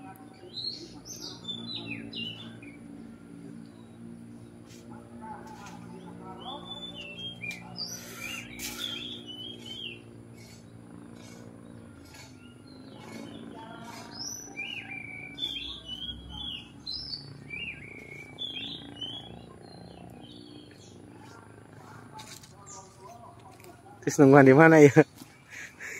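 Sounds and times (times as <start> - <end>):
bird singing: 0.0 - 25.9
low steady hum: 0.0 - 25.9.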